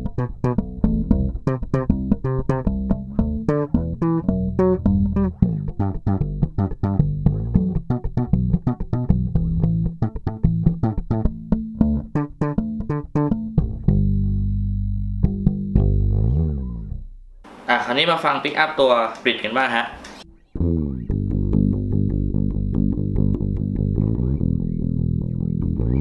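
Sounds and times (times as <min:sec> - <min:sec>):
electric bass plucked fingerstyle: 0:00.0 - 0:17.5, 0:20.2 - 0:26.0.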